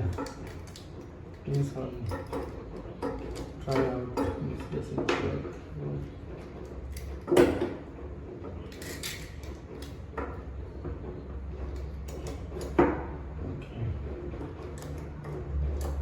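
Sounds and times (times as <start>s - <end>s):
metal welding gear knocking: 0.0s - 16.0s
steady low hum: 0.0s - 16.0s.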